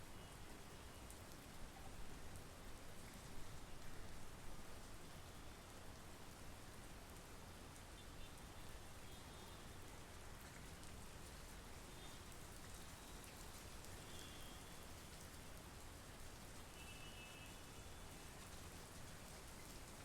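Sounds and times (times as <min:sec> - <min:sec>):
rain hiss with pattering drops: 0:00.0 - 0:20.0.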